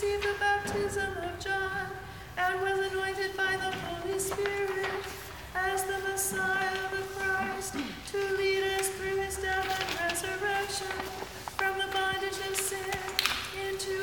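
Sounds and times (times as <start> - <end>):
woman chanting: 0.0 - 14.0.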